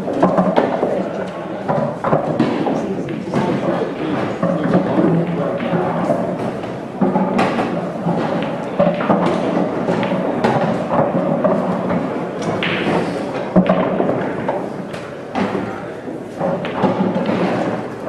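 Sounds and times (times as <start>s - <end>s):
din of busy hall: 0.0s - 18.0s
pool balls clicking: 0.0s - 18.0s.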